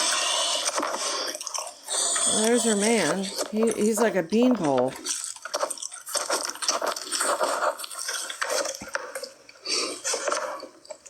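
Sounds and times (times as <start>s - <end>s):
food being crunched and chewed: 0.0s - 11.0s.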